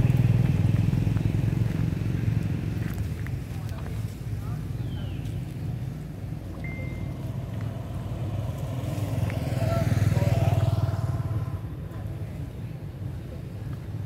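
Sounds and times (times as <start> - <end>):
vehicle engine passing by: 0.0 - 12.7.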